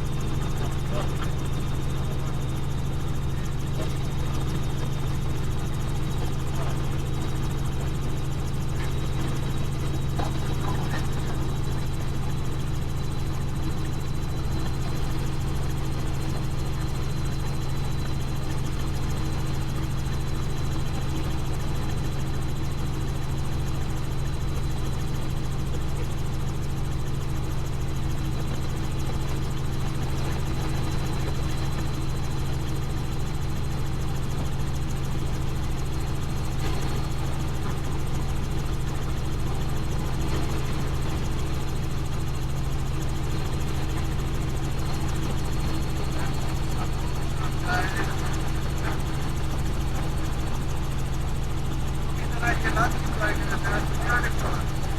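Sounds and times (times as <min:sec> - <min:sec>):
helicopter rotor and engine drone: 0:00.0 - 0:54.9.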